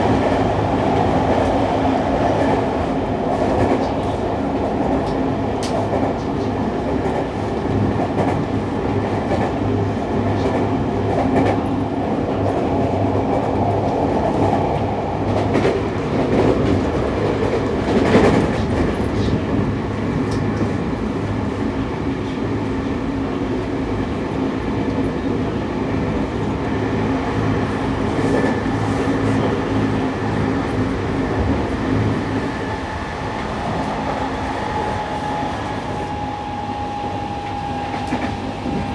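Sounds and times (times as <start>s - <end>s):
clickety-clack over rails: 0.0s - 38.9s
train wheels rumbling on rails: 0.0s - 38.9s.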